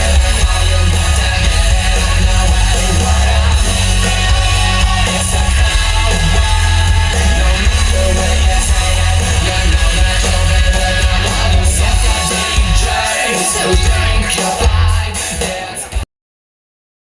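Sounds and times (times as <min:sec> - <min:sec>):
heavy pounding bass line: 0:00.0 - 0:15.5
loud music through stereo: 0:00.0 - 0:16.0.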